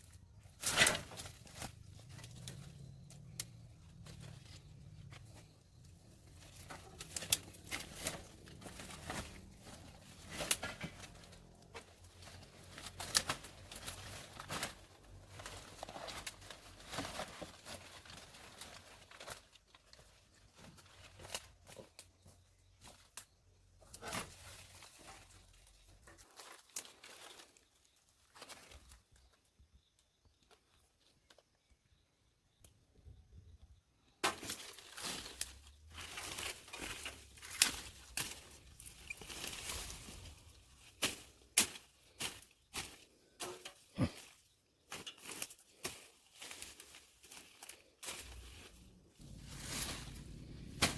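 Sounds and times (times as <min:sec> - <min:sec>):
rustling and scraping: 0:00.0 - 0:29.3, 0:34.2 - 0:50.9.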